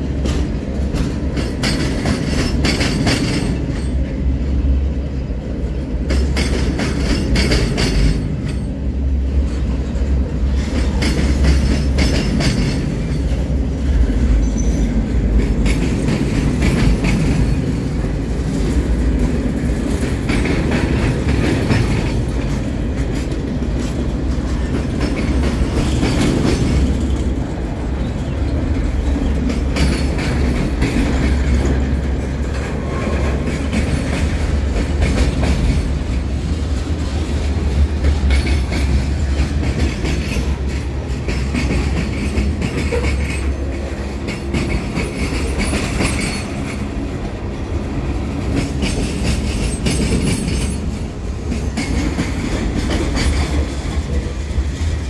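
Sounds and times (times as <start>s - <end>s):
wheels and couplings clacking: 0.0s - 4.4s, 5.5s - 55.0s
freight train wheels rumbling: 0.0s - 55.0s.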